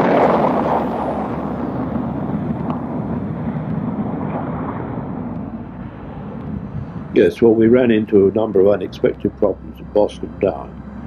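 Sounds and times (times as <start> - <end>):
jet aircraft climbing: 0.0 - 11.0.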